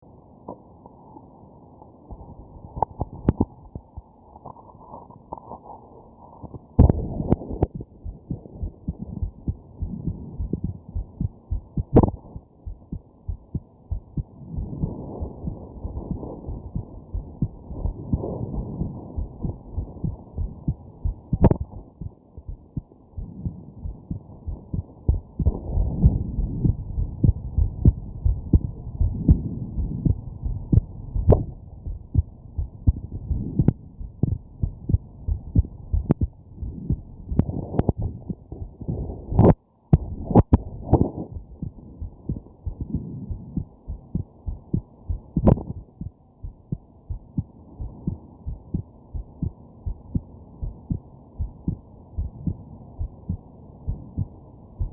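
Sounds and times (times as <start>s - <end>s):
heartbeat thumps: 2.1s - 4.2s, 6.8s - 54.9s.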